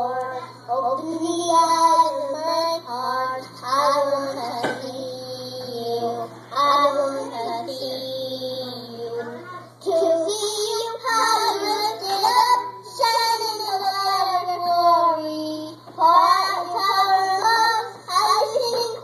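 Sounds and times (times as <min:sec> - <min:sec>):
boy singing through speakers: 0:00.0 - 0:19.0.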